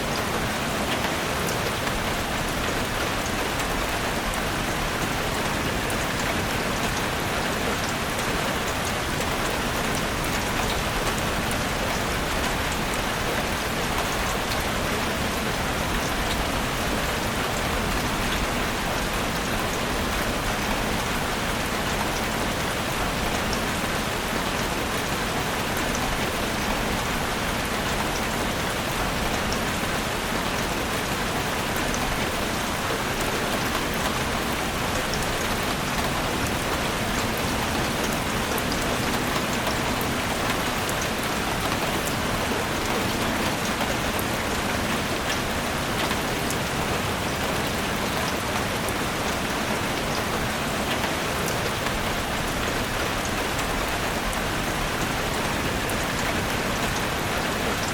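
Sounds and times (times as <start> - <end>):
rain falling in forest: 0.0 - 57.9.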